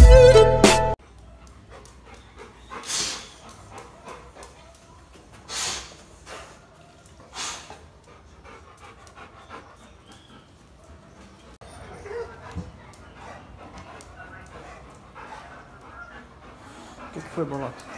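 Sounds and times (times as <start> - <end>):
dog panting: 1.0 - 17.9
dogs sniffing: 1.0 - 17.9.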